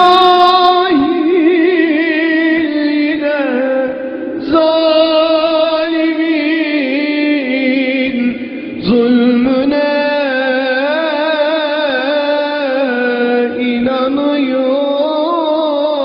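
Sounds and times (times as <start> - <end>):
wordless sung melody: 0.0 - 16.0.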